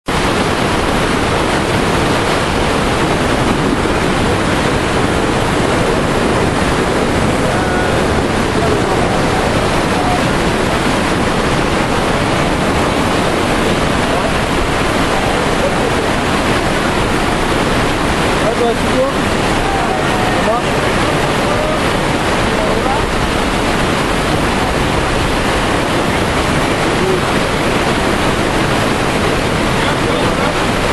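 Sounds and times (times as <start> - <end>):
whitewater rapids rushing: 0.1 - 30.9.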